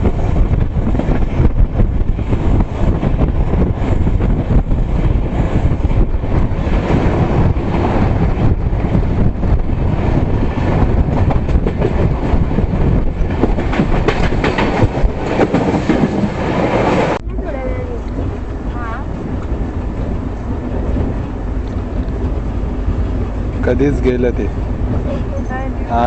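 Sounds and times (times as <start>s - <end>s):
train wheels rumbling on rails: 0.0s - 26.0s
wheels clacking over rail joints: 0.0s - 26.0s.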